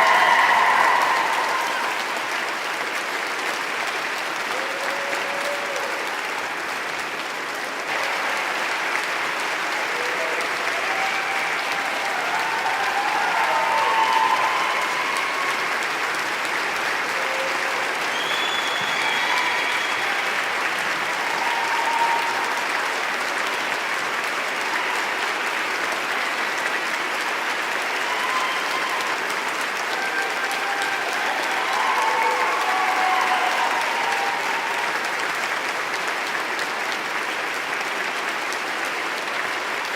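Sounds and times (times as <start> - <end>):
crowd applauding: 0.0 - 39.9.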